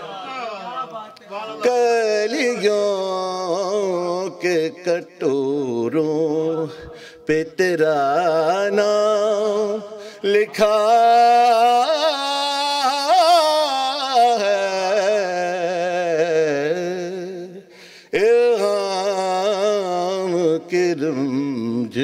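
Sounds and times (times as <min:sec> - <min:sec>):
man singing unaccompanied: 0:01.5 - 0:22.0.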